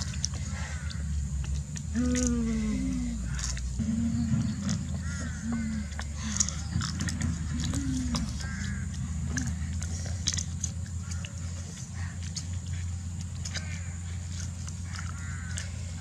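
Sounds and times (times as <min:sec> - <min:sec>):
crunchy bites and chewing: 0:00.0 - 0:02.4, 0:03.2 - 0:16.0
animal calls: 0:00.0 - 0:16.0.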